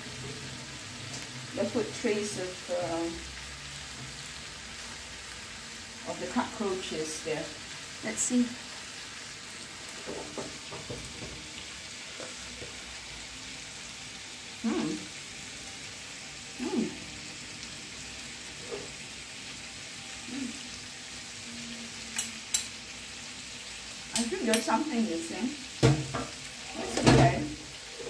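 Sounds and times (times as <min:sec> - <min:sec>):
vegetables sizzling in frying pan: 0:00.0 - 0:28.0.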